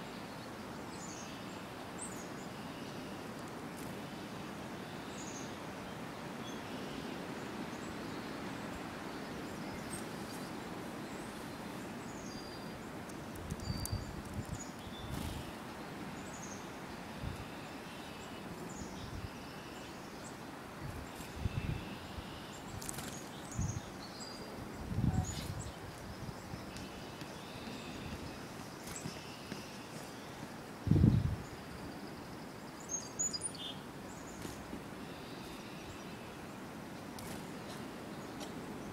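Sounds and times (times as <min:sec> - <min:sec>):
outdoor background noise: 0:00.0 - 0:38.9
songbirds chirping: 0:00.0 - 0:38.9.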